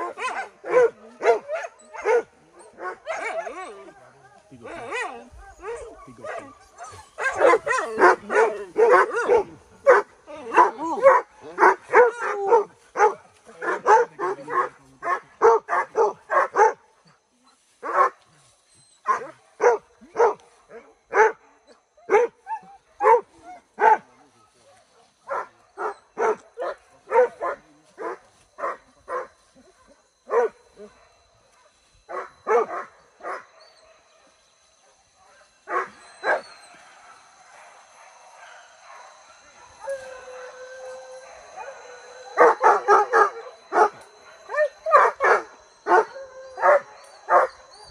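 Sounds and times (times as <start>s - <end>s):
dogs barking and yelping: 0.0s - 47.9s.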